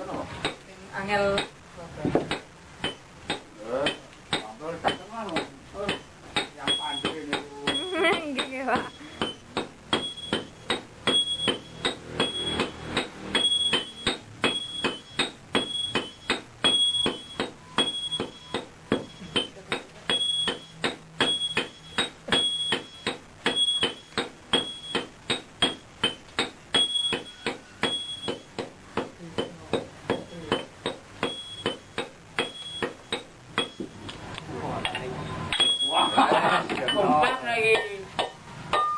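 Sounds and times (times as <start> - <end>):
hammering metal on an anvil: 0.4 - 0.6, 1.3 - 1.6, 2.2 - 34.0, 34.8 - 38.9.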